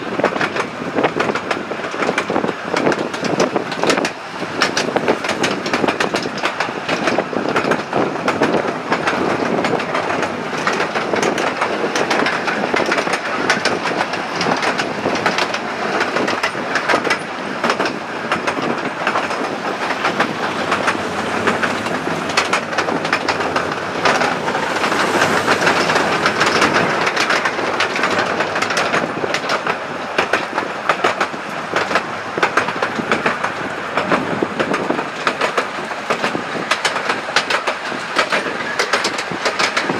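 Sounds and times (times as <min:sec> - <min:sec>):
train wheels clattering over track: 0:00.0 - 0:39.9.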